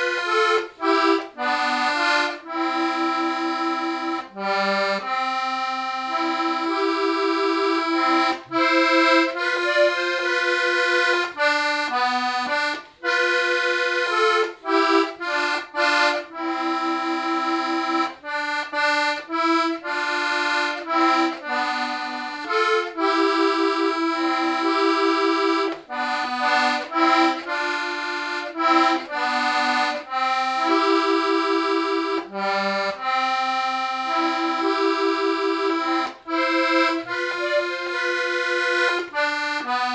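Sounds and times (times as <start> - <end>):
button accordion folk melody: 0.0 - 39.9.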